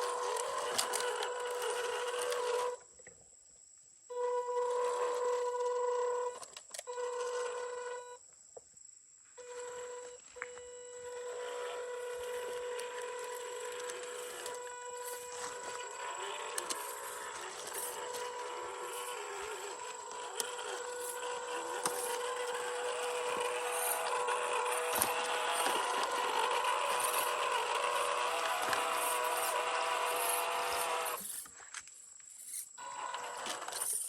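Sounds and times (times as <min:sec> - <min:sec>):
small electric motor whining: 0:00.0 - 0:02.8, 0:04.1 - 0:08.2, 0:09.4 - 0:31.6, 0:32.4 - 0:34.0.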